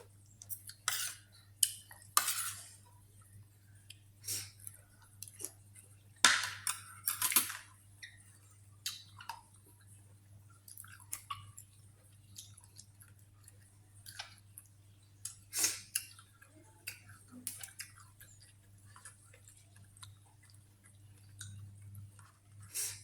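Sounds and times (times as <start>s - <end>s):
person chewing and smacking food: 0.2s - 2.2s, 2.9s - 22.7s.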